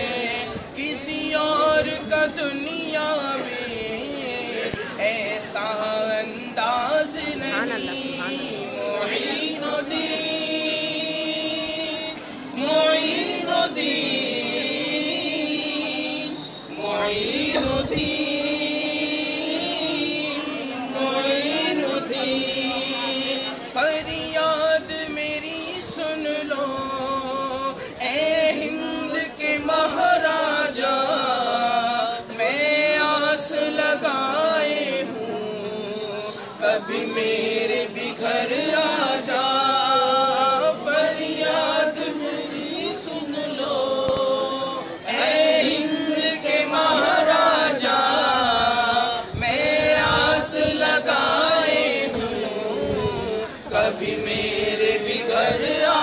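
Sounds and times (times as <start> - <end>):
men chanting a devotional hymn: 0.0 - 56.0.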